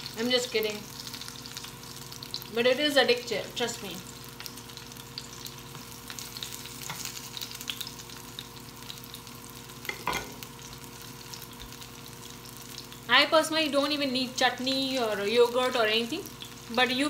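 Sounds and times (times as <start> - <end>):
fritters sizzling in oil: 0.0 - 17.0.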